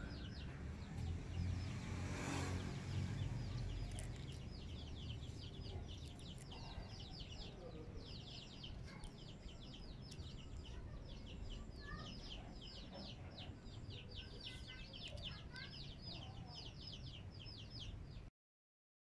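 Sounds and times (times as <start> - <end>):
birds chirping: 0.0 - 18.3.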